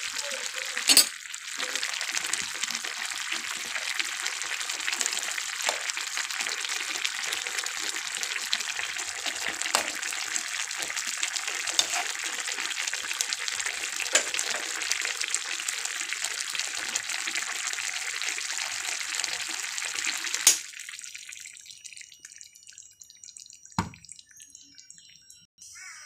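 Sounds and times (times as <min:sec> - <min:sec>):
curry bubbling and sizzling: 0:00.0 - 0:25.4.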